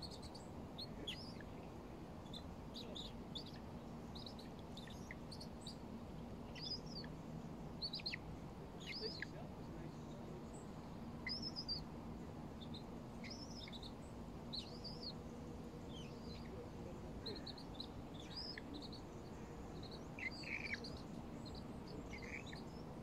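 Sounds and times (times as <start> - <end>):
birds chirping: 0.0 - 23.0
faint low hum: 0.0 - 23.0.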